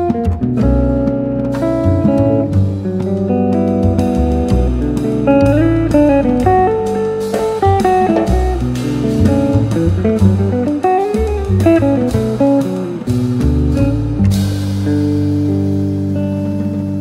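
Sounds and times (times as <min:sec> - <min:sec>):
bass: 0:00.0 - 0:17.0
plucked guitar melody: 0:00.0 - 0:17.0
steady beat: 0:00.0 - 0:17.0.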